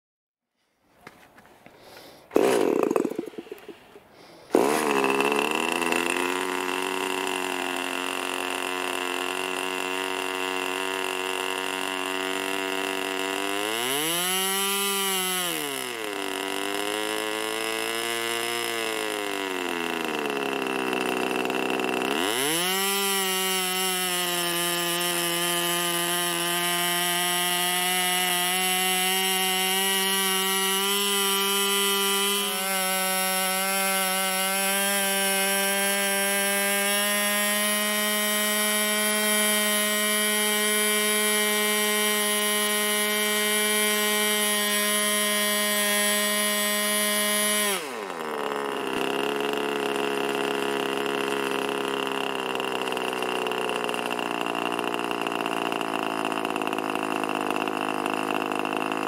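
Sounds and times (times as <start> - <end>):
electric starter spinning: 1.9 - 59.0
model engine running: 2.3 - 59.0.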